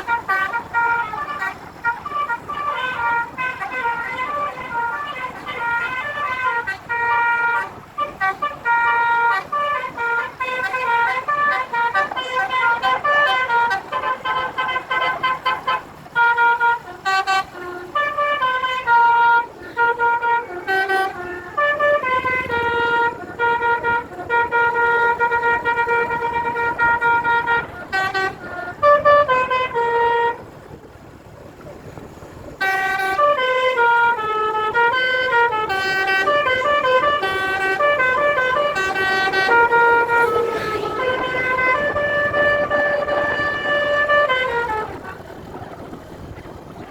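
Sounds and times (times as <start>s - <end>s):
melody horn playing a tune: 0.0s - 30.8s, 32.4s - 46.9s.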